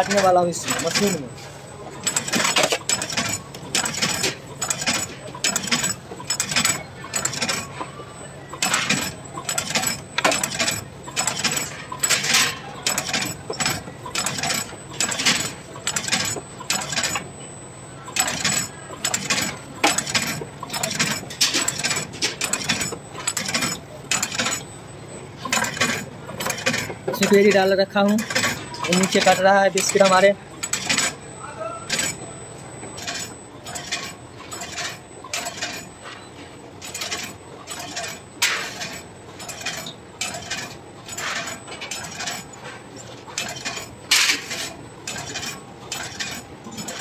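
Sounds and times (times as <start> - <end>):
biscuit machine metallic clicks: 0.0 - 1.3, 2.0 - 7.9, 8.5 - 17.3, 18.1 - 24.7, 25.4 - 31.3, 31.9 - 32.2, 32.8 - 36.0, 36.8 - 47.0.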